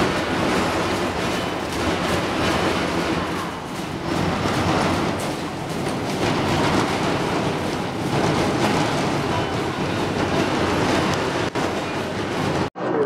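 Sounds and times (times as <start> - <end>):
machine running with low hum: 0.0 - 13.0.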